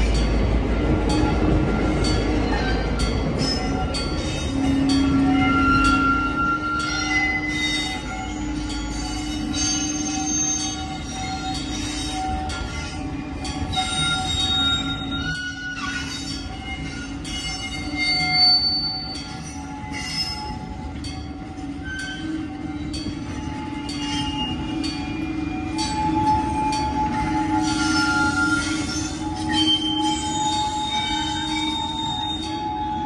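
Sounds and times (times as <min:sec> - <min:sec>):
train wheels squealing: 0:01.1 - 0:33.0.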